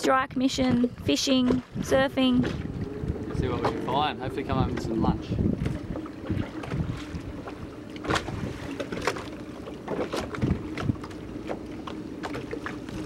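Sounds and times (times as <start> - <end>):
knocks and thuds in a dinghy: 0.0 - 13.0
water slapping hulls: 0.0 - 13.0.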